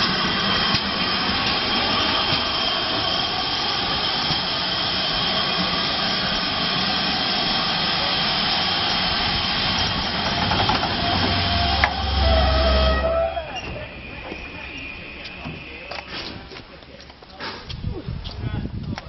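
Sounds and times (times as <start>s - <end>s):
train coaches rolling past: 0.0s - 17.4s.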